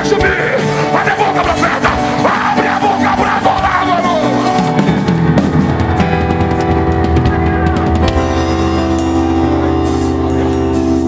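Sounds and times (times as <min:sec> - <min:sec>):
live worship band music: 0:00.0 - 0:11.0.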